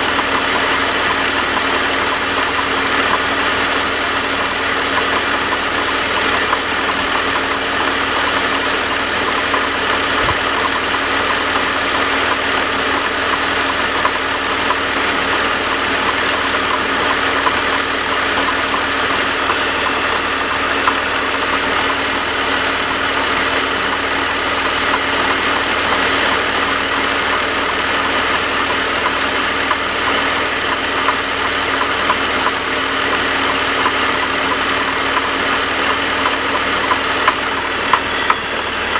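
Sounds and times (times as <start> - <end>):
car engine idling with clatter: 0.0 - 38.9.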